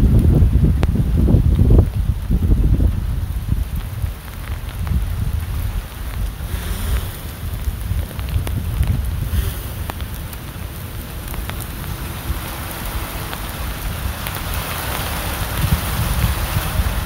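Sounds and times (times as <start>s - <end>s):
rain hissing: 0.0s - 17.0s
raindrop ticks: 0.0s - 17.0s
wind rumble on microphone: 0.0s - 17.0s.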